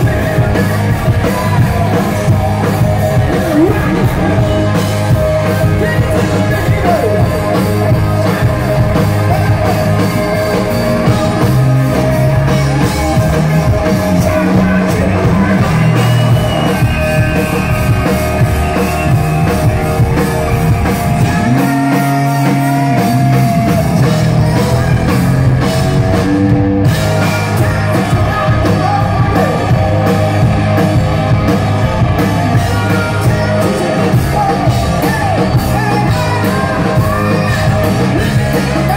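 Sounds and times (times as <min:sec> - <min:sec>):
bass guitar: 0:00.0 - 0:38.9
drum kit: 0:00.0 - 0:38.9
electric guitars: 0:00.0 - 0:38.9
lead singer: 0:00.0 - 0:38.9.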